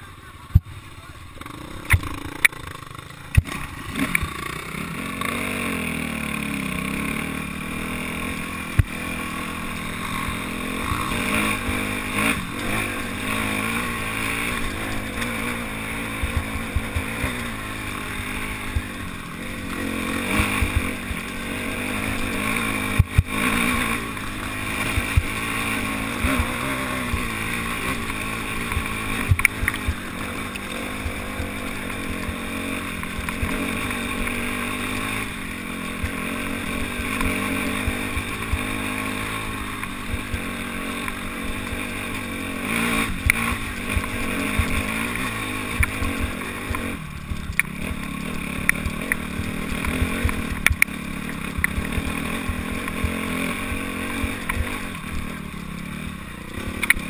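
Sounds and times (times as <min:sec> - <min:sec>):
dirt bike engine: 0:00.0 - 0:57.0.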